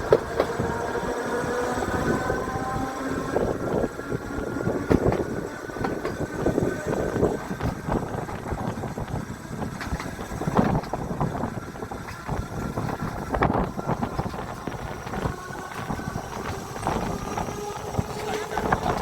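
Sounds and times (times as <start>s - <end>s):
rail knocks and clicks: 0.0s - 1.0s, 3.5s - 19.0s
tram wheels rumbling: 0.0s - 19.0s.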